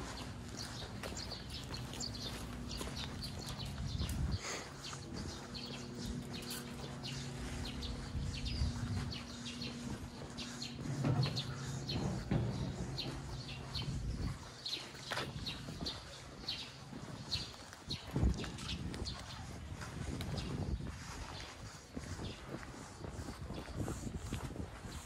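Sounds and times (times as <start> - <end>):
footsteps walking on paths: 0.0 - 25.0
small birds chirping: 0.0 - 25.0.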